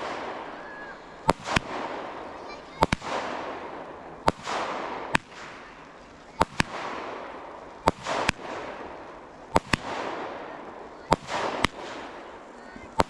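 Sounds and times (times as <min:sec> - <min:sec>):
fireworks bangs: 0:00.0 - 0:13.0
fireworks hiss: 0:00.0 - 0:13.0.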